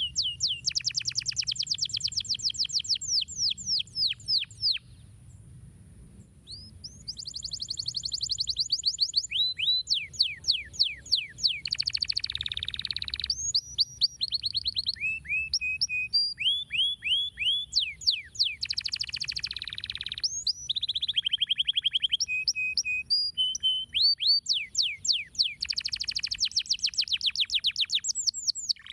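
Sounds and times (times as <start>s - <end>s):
canary singing trills: 0.0s - 5.0s, 6.5s - 28.9s.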